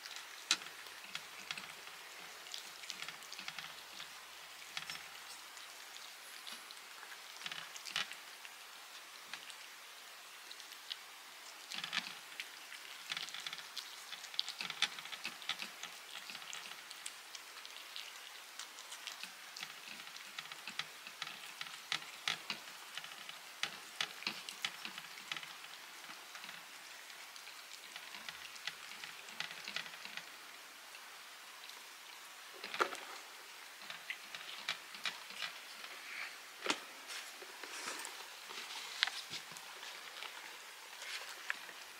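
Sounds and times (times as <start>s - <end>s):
cats chewing and licking: 0.0s - 41.9s.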